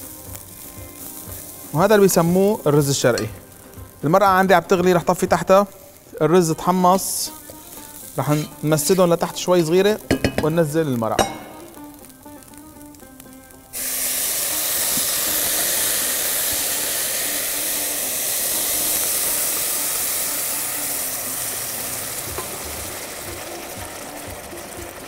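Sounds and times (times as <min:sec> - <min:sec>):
broth sizzling in hot pot: 0:00.0 - 0:25.0.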